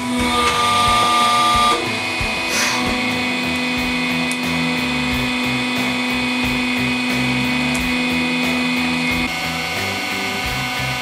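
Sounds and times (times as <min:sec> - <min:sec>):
hydraulic press pump whine: 0:00.0 - 0:11.0.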